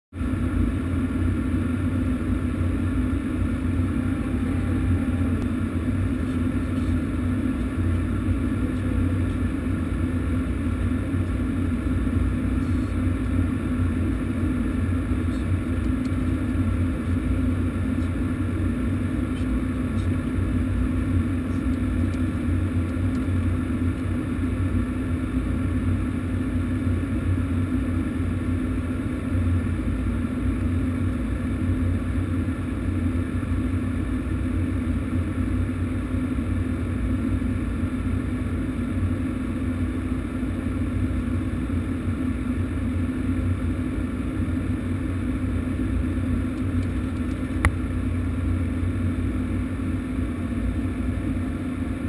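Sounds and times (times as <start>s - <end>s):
aircraft engine drone in cockpit: 0.1s - 52.0s
constant low hum: 0.1s - 52.0s.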